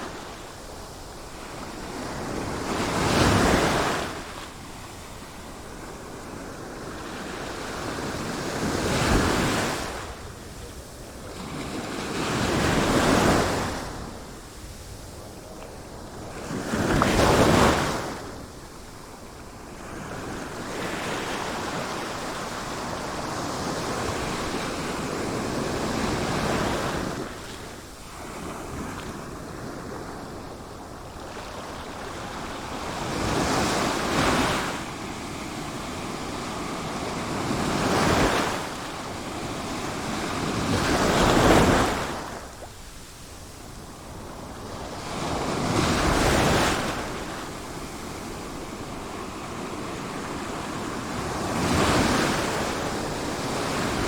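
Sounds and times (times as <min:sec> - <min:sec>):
wind: 0:00.0 - 0:54.0.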